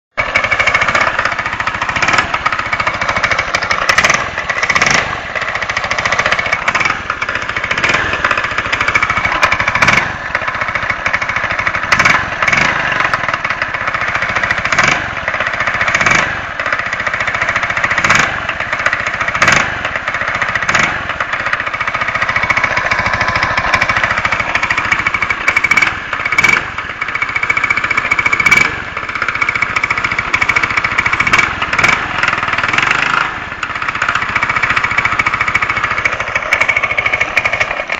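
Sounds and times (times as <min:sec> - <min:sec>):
engine running with rapid knocking: 0:00.0 - 0:37.9.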